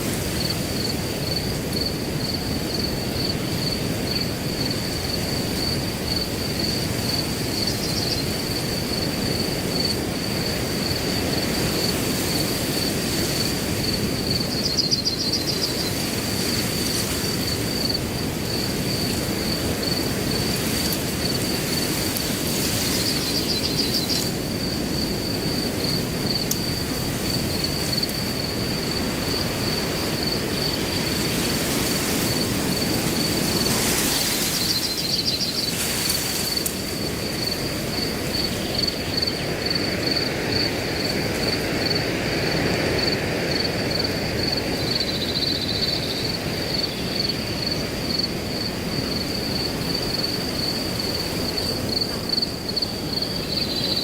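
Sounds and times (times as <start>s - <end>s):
crickets chirping: 0.0s - 54.0s
wind blowing through grass: 0.0s - 54.0s.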